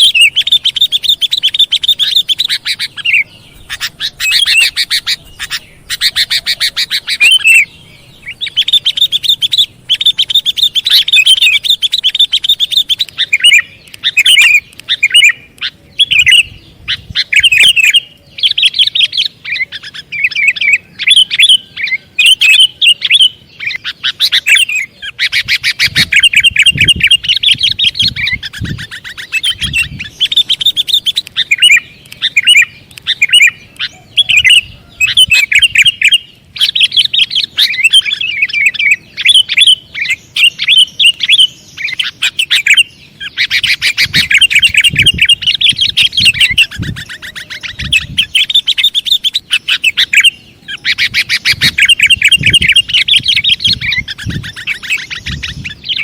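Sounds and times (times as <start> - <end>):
bird chattering chirps: 0.0 - 56.0.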